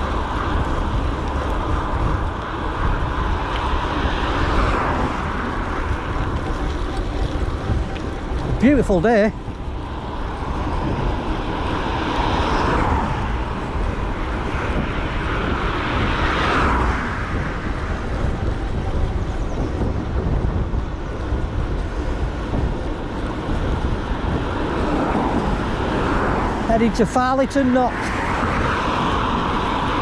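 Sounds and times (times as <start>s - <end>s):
vehicles passing: 0.0s - 30.0s
wind on camera microphone: 0.0s - 30.0s.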